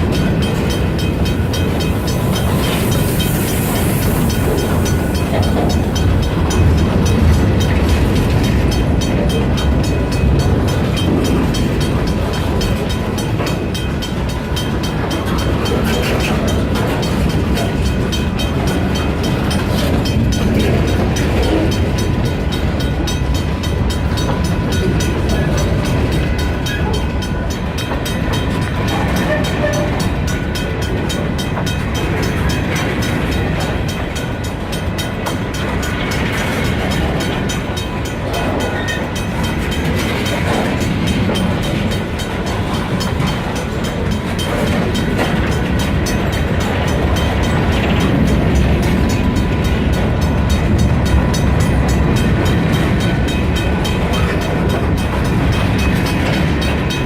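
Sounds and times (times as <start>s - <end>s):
freight train rumbling on rails: 0.0s - 57.0s.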